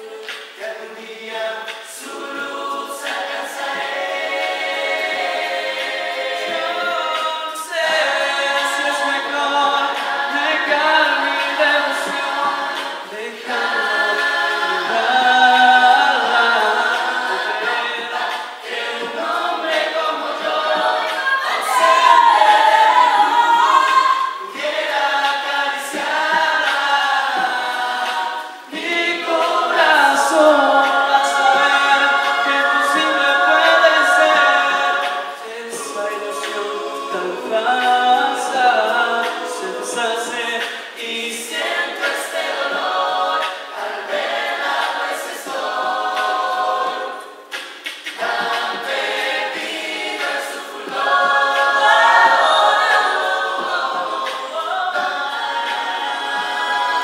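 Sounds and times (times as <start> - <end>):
chorus singing: 0.0 - 57.0
lead singer: 0.0 - 57.0.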